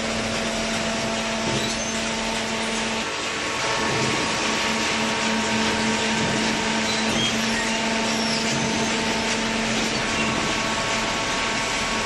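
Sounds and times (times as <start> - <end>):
hydraulic power unit humming: 0.0 - 12.0.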